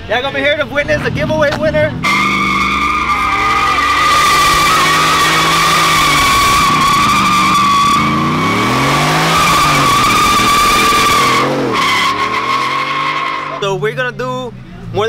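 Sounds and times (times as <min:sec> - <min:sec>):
car engine revving: 0:00.0 - 0:15.0
tyres screeching: 0:00.3 - 0:14.2.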